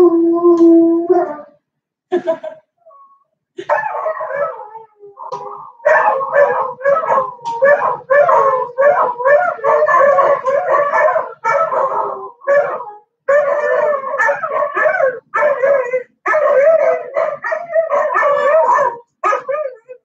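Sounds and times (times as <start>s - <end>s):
dog howling and whining: 0.0s - 1.6s, 3.7s - 20.0s.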